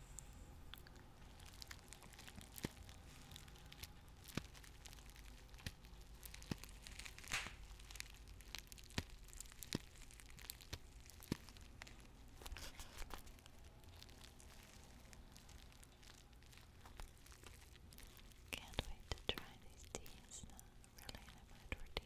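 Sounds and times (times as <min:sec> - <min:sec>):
paper tea bags crinkling: 0:01.2 - 0:22.0.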